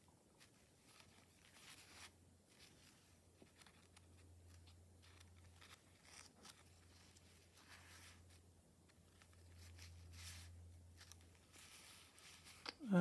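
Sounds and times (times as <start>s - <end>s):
paper pages rustling: 0.0s - 12.8s
low steady hum: 0.0s - 13.0s.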